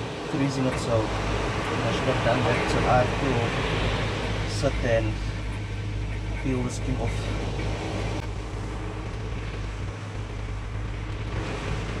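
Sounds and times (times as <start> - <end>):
surf: 0.0 - 12.0
wind on microphone: 0.0 - 12.0.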